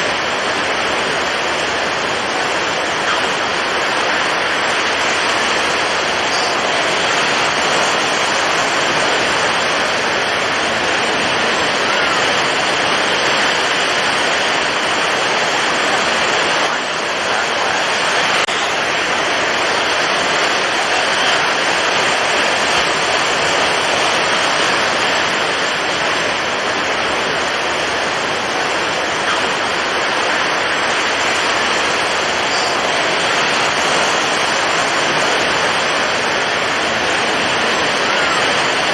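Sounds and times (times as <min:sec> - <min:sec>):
heavy surf: 0:00.0 - 0:38.9
strong wind: 0:00.0 - 0:38.9.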